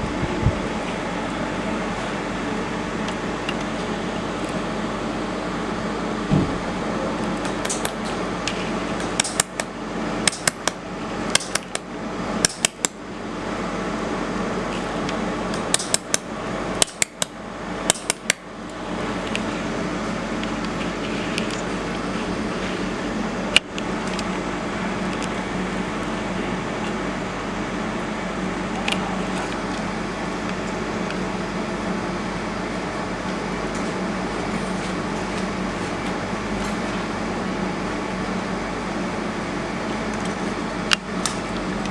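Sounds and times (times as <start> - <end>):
cooling fan hum: 0.0 - 41.9.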